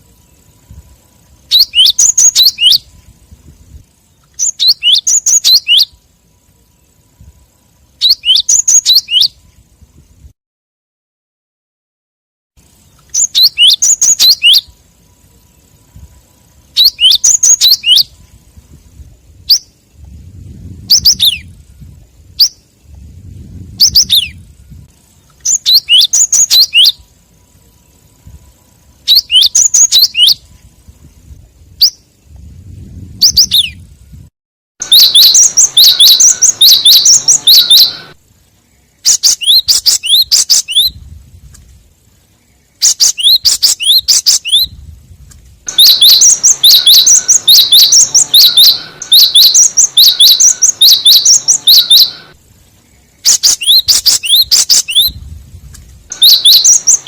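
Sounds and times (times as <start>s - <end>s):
bird chirps: 0.0s - 10.3s, 12.6s - 34.2s, 34.8s - 41.0s, 42.0s - 44.8s, 45.6s - 57.0s.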